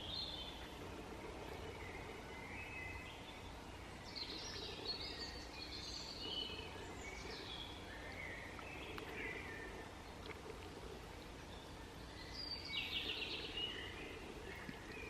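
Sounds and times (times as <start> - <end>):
low background rumble: 0.0 - 15.0
songbirds chirping: 0.0 - 15.0.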